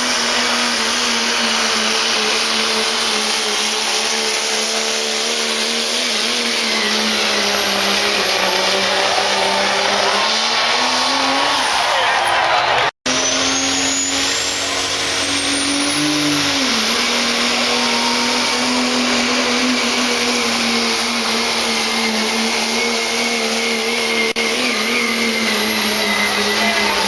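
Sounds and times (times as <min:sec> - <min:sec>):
diesel engine drone: 0:00.0 - 0:27.0
turbo whistle: 0:00.0 - 0:27.0.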